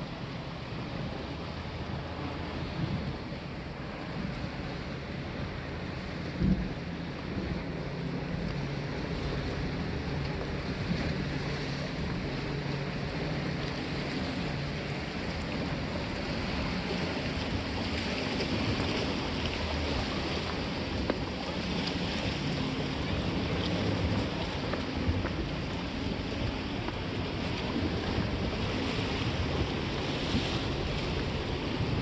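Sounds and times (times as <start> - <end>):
wind: 0.0 - 32.0
sea washing on rocks: 1.9 - 32.0.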